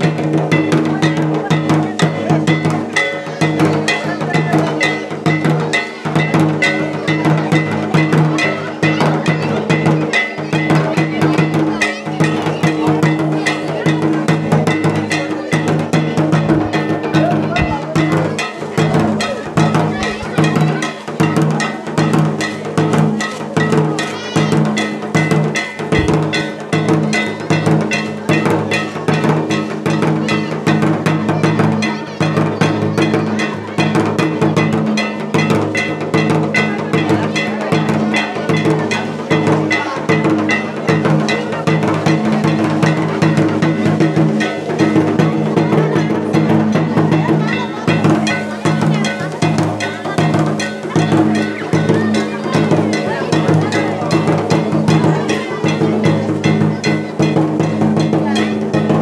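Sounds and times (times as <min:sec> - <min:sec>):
clanging metal percussion: 0:00.0 - 0:59.0
fast drumming: 0:00.0 - 0:59.0.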